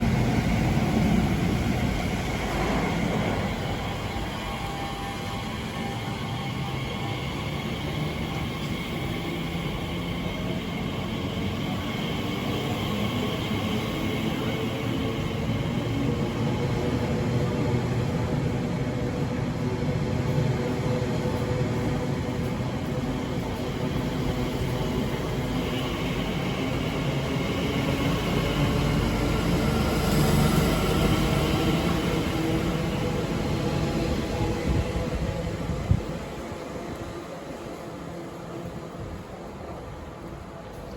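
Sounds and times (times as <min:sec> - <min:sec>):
wheels rumbling on rail: 0:00.0 - 0:40.9.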